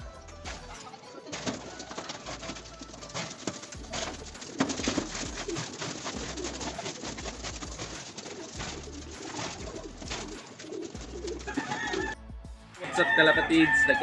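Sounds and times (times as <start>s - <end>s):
pigeons cooing: 0.0s - 12.2s.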